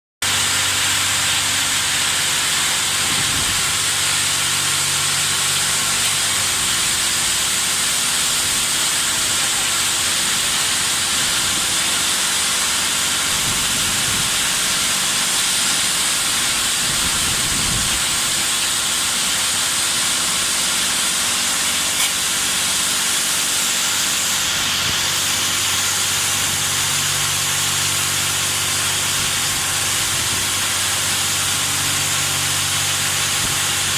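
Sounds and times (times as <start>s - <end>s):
high-pressure water jets spraying: 0.2s - 33.9s.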